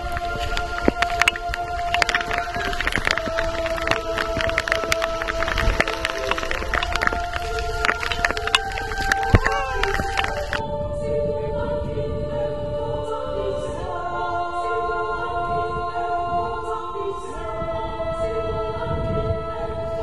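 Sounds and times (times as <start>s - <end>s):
choir-like voices holding chords: 0.0s - 20.0s.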